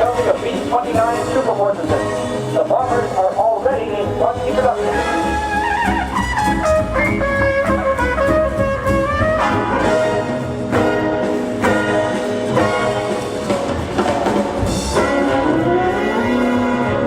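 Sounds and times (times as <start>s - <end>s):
brass band playing held chords: 0.0s - 17.0s.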